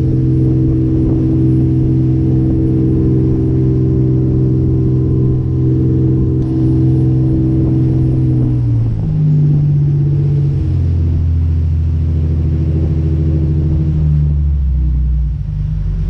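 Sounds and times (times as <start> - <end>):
motorboat engines humming: 0.0 - 16.0
water rushing from wake: 0.0 - 16.0.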